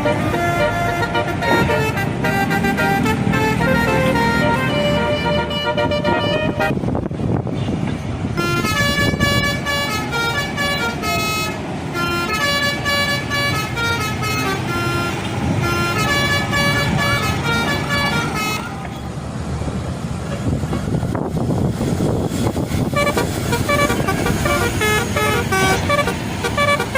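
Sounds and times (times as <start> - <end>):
multi-tone bus air horn tune: 0.0 - 7.0, 8.3 - 18.8, 22.8 - 26.9
low rumble of vehicle noise: 0.0 - 26.9.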